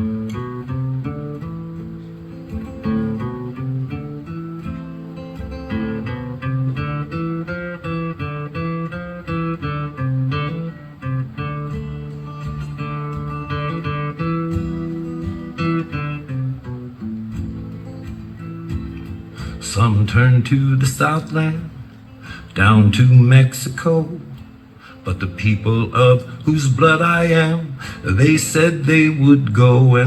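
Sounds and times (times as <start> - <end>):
acoustic guitar playing: 0.0 - 30.0.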